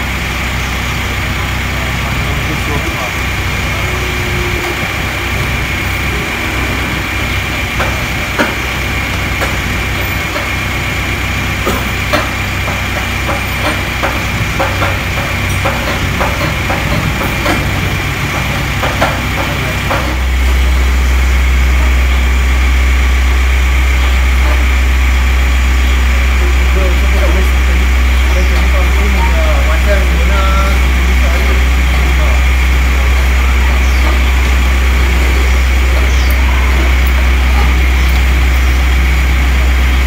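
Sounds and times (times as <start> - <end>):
low machine drone: 0.0 - 40.0.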